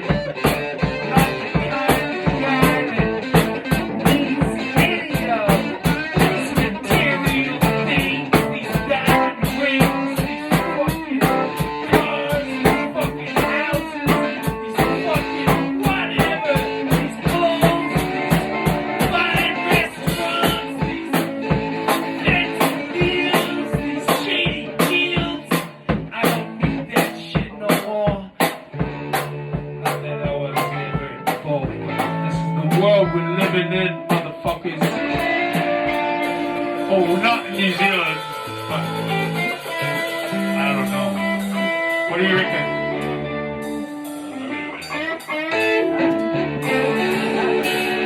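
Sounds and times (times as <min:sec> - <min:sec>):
drum kit beat: 0:00.0 - 0:48.0
guitar: 0:00.0 - 0:48.0.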